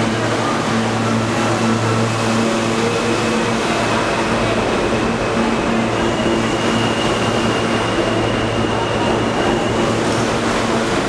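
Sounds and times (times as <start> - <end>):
subway train pulling out: 0.0 - 11.0.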